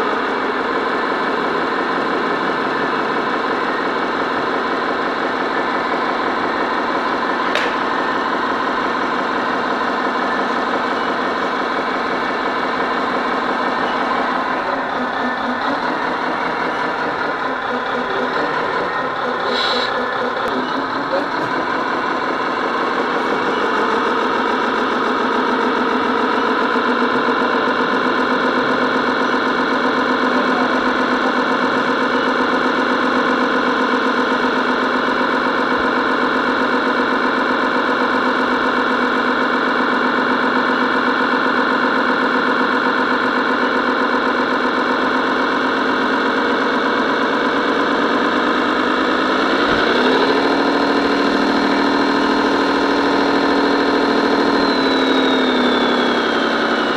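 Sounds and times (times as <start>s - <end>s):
toy truck motor hum: 0.0s - 56.9s.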